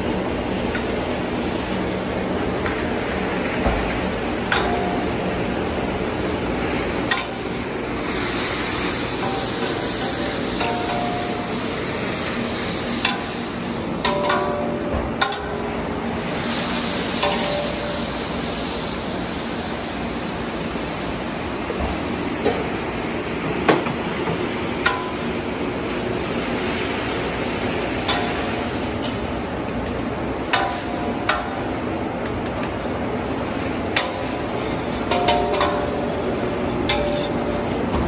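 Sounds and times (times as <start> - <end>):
noodles sizzling on a griddle: 0.0 - 38.0.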